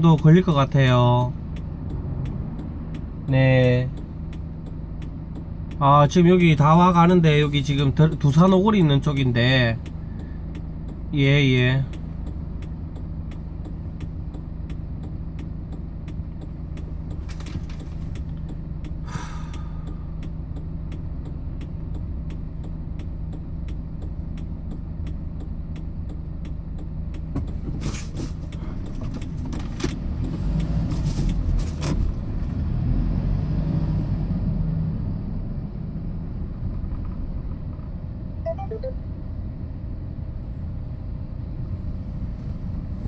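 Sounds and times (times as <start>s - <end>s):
truck engine and road noise: 0.0s - 43.0s.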